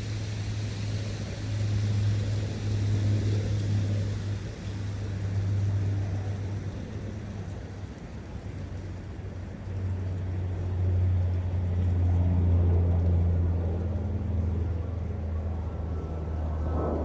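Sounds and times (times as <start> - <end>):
faint hiss of flowing water: 0.0 - 16.6
low engine drone: 0.0 - 17.0.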